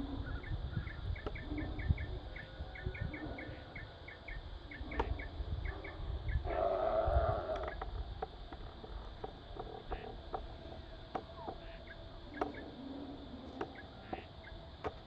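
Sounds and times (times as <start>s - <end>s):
faint animal calls: 0.0s - 15.0s
low hum: 0.0s - 15.0s.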